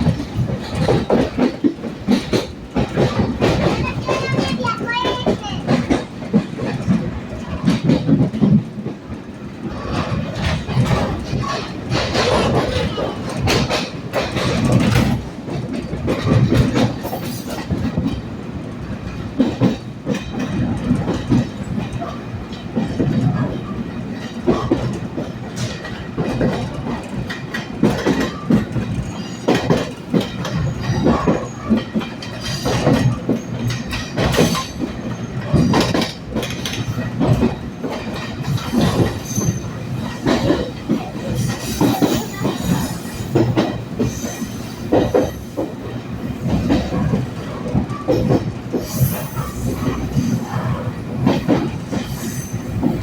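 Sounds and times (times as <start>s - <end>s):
train low rumble: 0.0s - 53.0s
train wheels clattering over rail joints: 0.0s - 53.0s.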